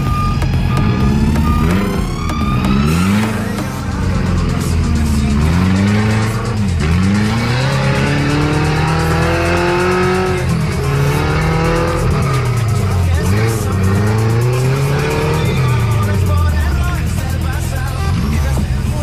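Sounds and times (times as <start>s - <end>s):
off-road vehicle engines revving: 0.0s - 19.0s.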